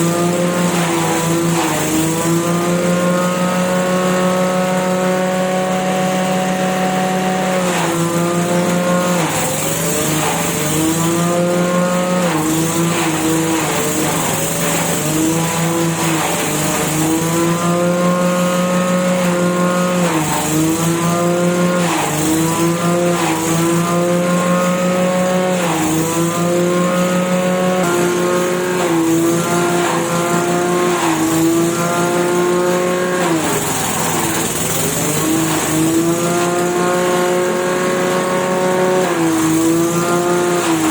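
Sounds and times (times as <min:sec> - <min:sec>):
grass chopper engine running: 0:00.0 - 0:40.9.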